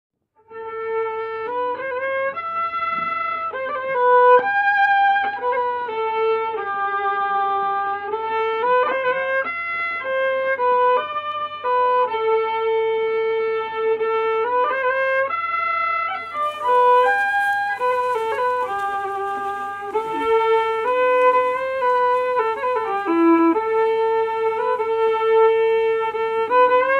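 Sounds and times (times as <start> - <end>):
solo fiddle slow melody: 0.4 - 26.9.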